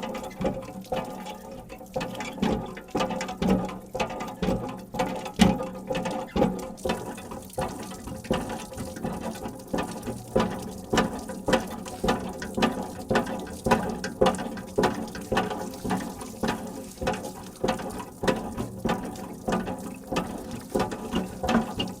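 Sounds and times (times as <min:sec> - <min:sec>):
hand pump clanking: 0:00.0 - 0:22.0
running water: 0:00.0 - 0:22.0.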